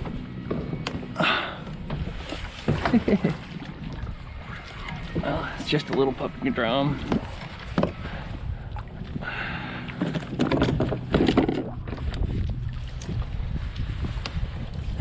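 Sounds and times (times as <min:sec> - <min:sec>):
knocks and rustling on kayak: 0:00.0 - 0:09.2, 0:09.8 - 0:15.0
wind rumbling on microphone: 0:00.0 - 0:15.0.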